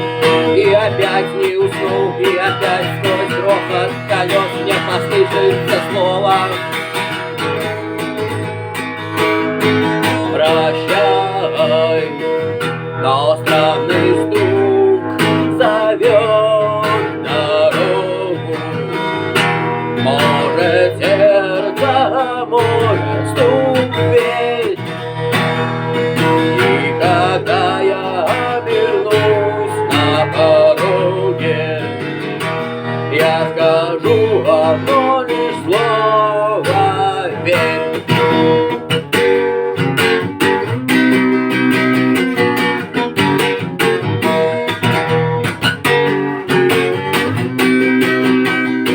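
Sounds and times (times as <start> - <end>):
acoustic guitar strummed: 0.0 - 48.9.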